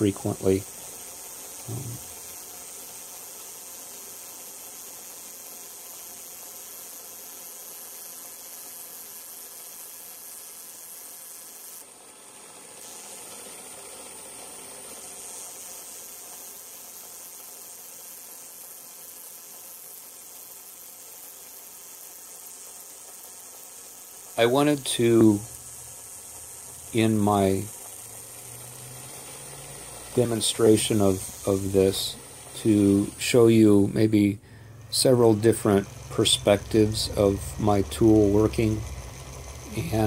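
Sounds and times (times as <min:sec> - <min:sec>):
lathe spindle cutting with hiss: 0:00.0 - 0:40.0.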